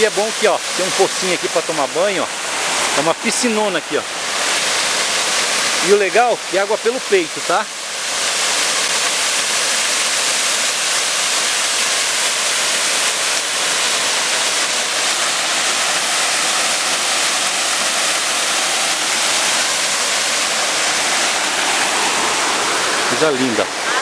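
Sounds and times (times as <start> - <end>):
waterfall rushing over rocks: 0.0 - 24.0.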